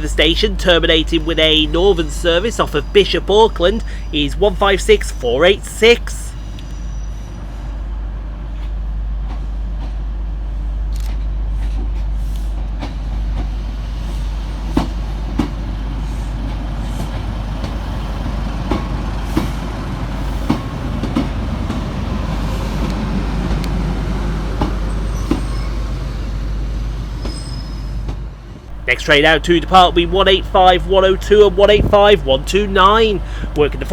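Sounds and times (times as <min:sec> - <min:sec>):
diesel train engine rumbling: 0:00.0 - 0:33.9.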